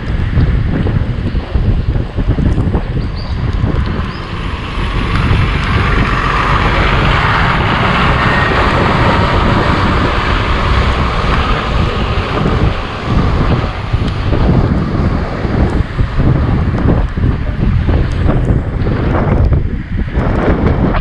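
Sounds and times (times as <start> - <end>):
motor vehicle passing: 0.0 - 21.0
wind buffeting microphone: 0.0 - 21.0.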